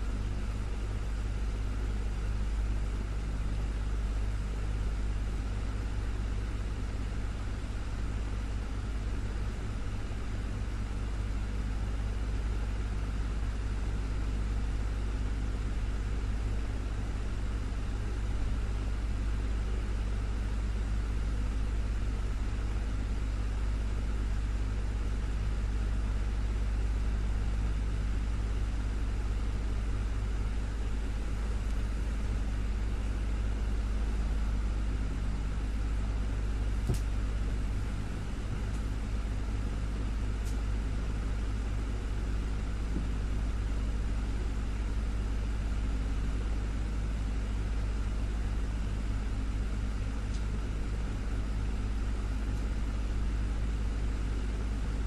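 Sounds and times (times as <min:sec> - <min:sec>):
desktop fan running: 0:00.0 - 0:55.0.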